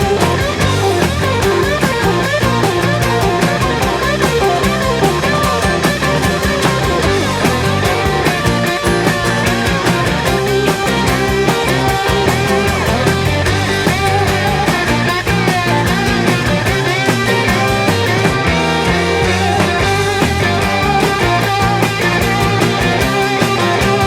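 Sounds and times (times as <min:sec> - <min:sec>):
driving drums: 0:00.0 - 0:24.0
electric guitar solo: 0:00.0 - 0:24.0.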